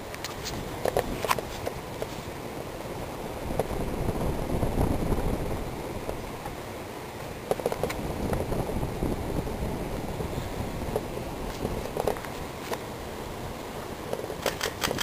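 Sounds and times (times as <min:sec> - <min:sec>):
ceiling fan whooshing: 0:00.0 - 0:15.0.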